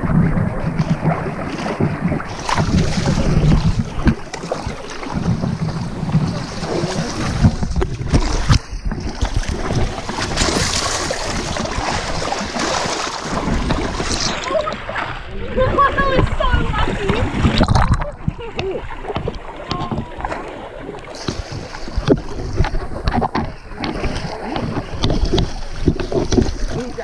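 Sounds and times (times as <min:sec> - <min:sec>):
water sloshing and splashing: 0:00.0 - 0:27.0.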